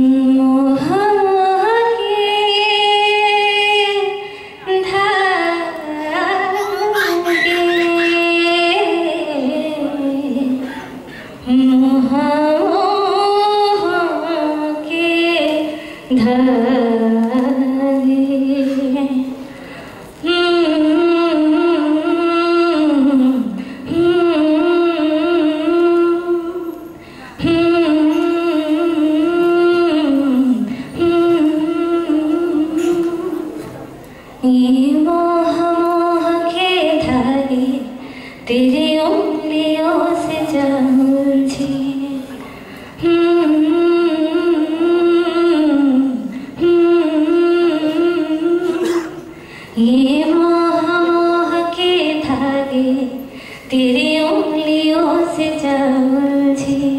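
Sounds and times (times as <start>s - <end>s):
woman singing into microphone: 0.0s - 19.5s, 20.1s - 56.9s.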